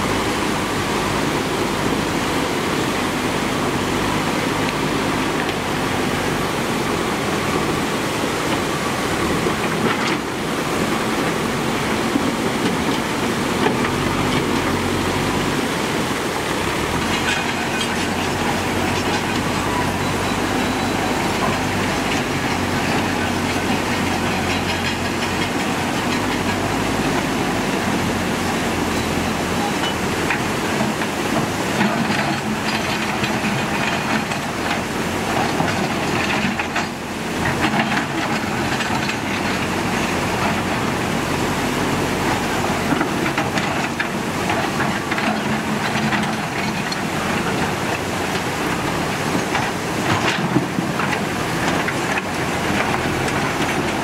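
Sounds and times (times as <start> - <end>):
diesel engine running: 0.0 - 54.0
water rushing over rocks: 0.0 - 54.0.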